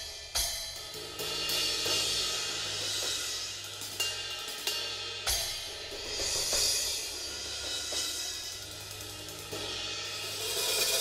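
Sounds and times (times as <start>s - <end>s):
cymbals and hi-hat wash: 0.0s - 11.0s
drums: 0.0s - 11.0s.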